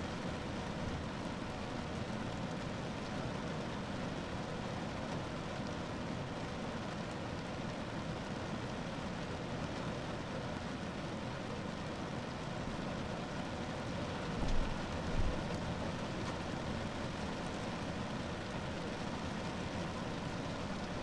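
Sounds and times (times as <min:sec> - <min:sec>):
rain on a car roof: 0:00.0 - 0:21.0.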